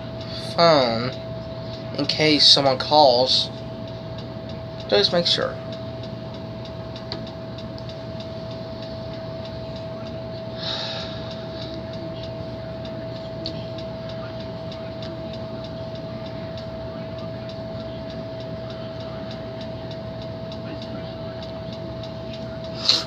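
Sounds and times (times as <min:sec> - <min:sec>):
faint regular ticking: 0:00.0 - 0:23.0
mid-pitched whine: 0:00.0 - 0:23.0
steady background hum: 0:00.0 - 0:23.0.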